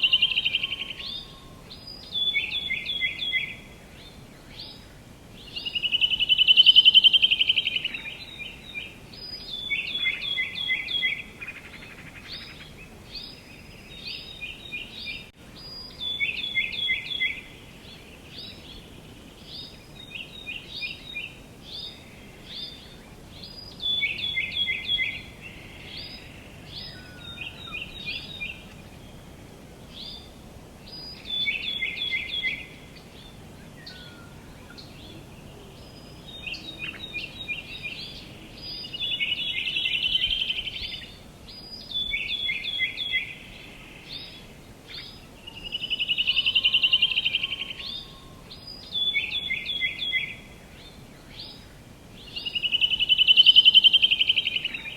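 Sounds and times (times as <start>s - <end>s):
faint outdoor hiss: 0.0s - 54.9s
songbirds chirping: 0.0s - 54.9s.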